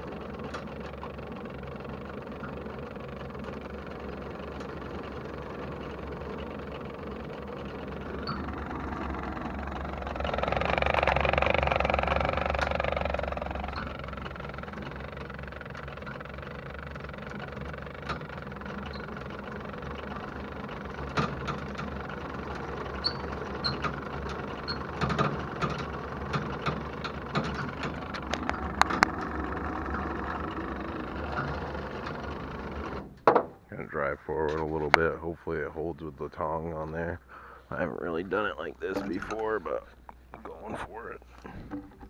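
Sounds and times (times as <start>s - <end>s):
pickup truck engine idling: 0.0s - 42.0s
rigging clicks and knocks: 0.3s - 33.6s, 38.6s - 42.0s.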